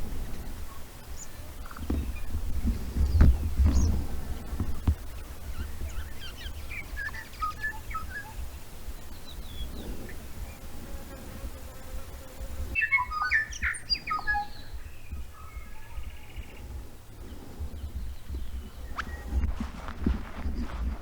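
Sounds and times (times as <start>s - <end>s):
songbirds chirping and whistling: 0.0s - 21.0s
steady low rumble: 0.0s - 21.0s.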